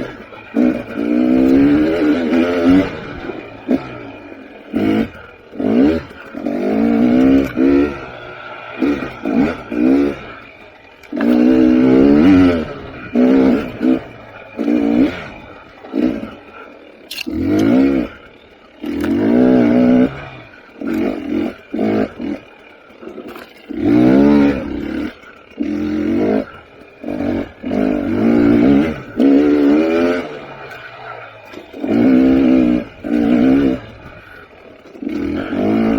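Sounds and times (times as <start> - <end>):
dirt bike engine revving: 0.0 - 35.9.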